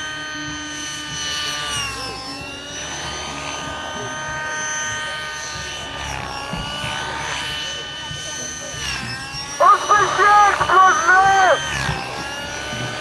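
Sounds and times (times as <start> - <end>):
model aircraft engine whining: 0.0 - 13.0.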